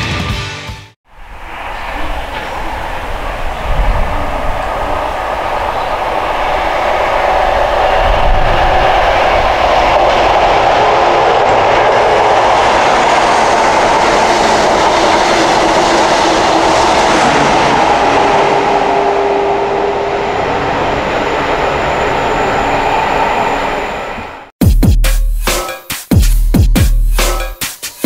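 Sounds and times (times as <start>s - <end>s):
diesel engine drone: 1.1s - 24.5s
train wheels rumbling on rails: 1.1s - 24.5s.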